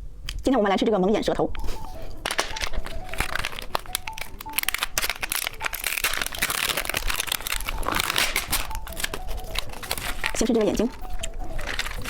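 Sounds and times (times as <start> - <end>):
plastic wrapper crinkling: 1.6 - 12.0.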